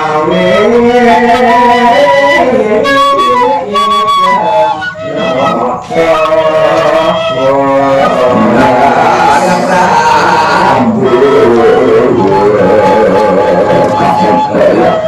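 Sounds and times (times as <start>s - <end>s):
man singing with long held notes: 0.0s - 15.0s.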